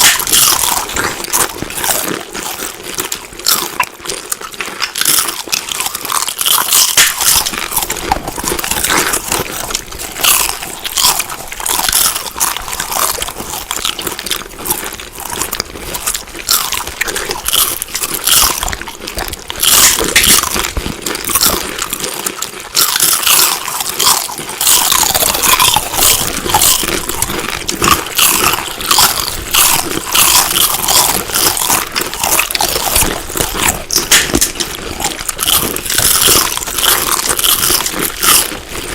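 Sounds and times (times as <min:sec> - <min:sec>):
crunchy chewing of food: 0:00.0 - 0:38.9.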